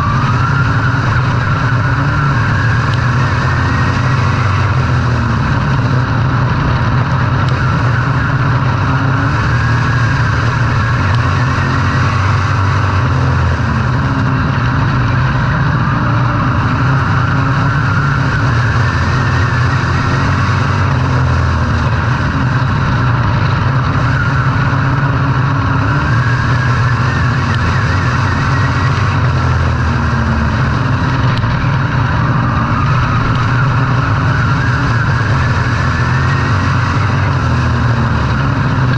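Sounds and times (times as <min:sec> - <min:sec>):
racing engines revving: 0:00.0 - 0:38.9.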